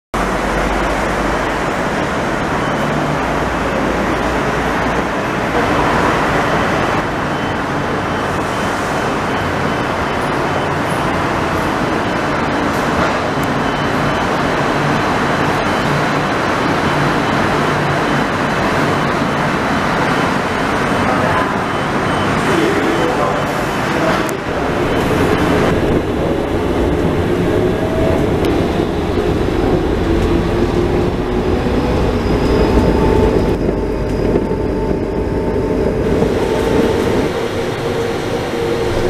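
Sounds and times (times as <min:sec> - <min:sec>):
city traffic noise: 0:00.1 - 0:39.0
train passing on viaduct: 0:00.2 - 0:39.0.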